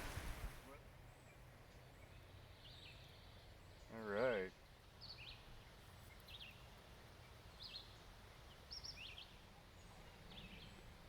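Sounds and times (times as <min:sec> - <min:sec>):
faint birdsong chirps and trills: 0:01.0 - 0:11.0.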